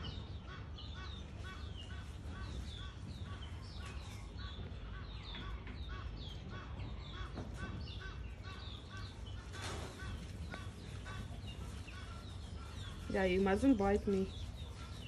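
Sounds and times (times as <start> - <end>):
high chirping calls: 0.0 - 15.0.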